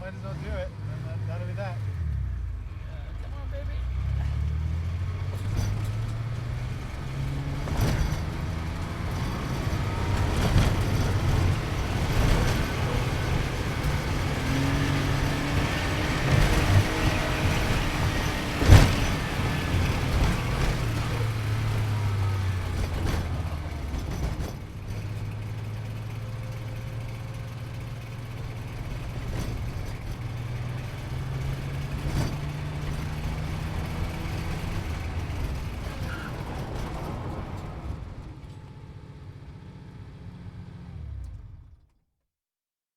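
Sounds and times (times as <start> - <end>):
sports car engine revving: 0.0 - 38.1.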